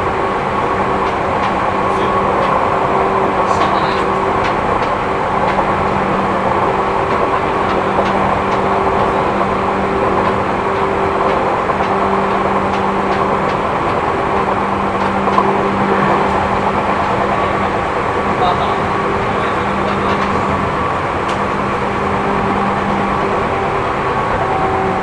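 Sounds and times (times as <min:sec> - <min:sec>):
train motor hum: 0:00.0 - 0:25.0
train wheels rumbling on rail: 0:00.0 - 0:25.0.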